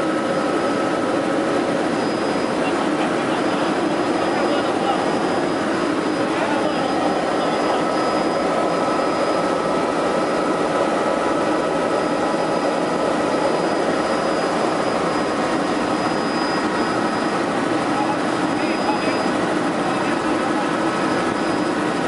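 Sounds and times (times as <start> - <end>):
helicopter rotor and turbine: 0.0 - 22.0.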